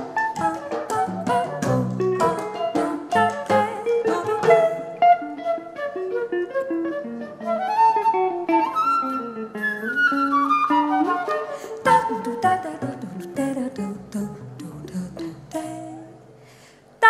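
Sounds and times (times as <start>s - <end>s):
plucked guitar: 0.0s - 16.7s.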